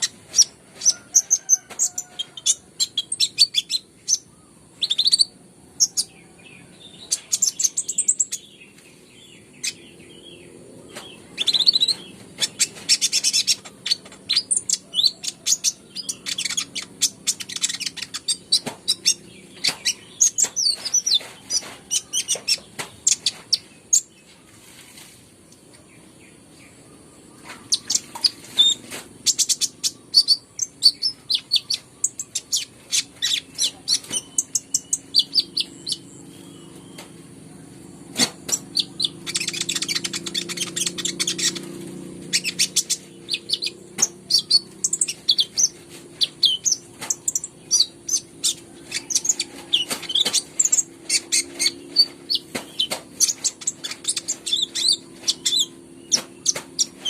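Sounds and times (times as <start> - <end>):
sunbird singing: 0.0 - 24.8, 25.5 - 57.0.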